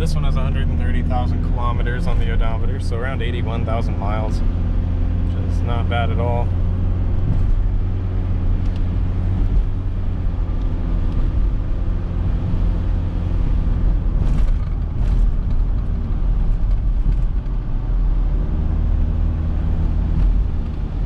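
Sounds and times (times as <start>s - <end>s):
diesel engine hum: 0.0s - 21.0s
road noise: 0.0s - 21.0s.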